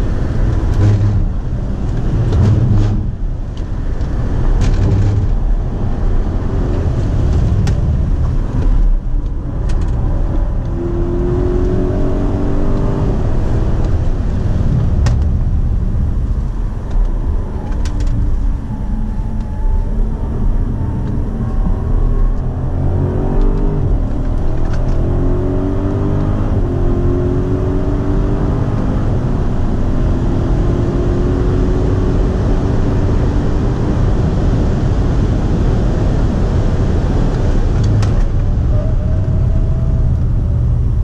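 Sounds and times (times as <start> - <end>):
car engine at full speed: 0.0 - 41.0
road and wind noise: 0.0 - 41.0.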